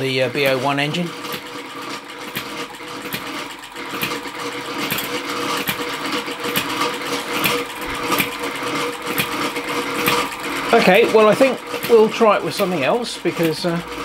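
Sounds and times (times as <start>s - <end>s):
engine knock: 0.0s - 14.0s
grinding gears: 0.0s - 14.0s
small engine clatter and hum: 0.0s - 14.0s.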